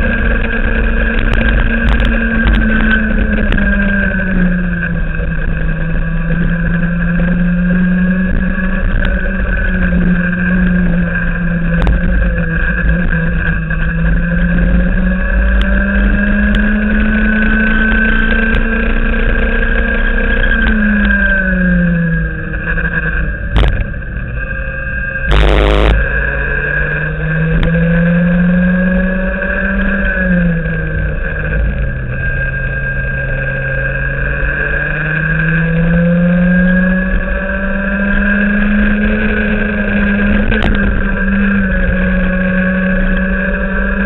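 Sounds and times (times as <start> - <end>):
steady low rumble: 0.0 - 43.7
racing kart engine: 0.0 - 44.0.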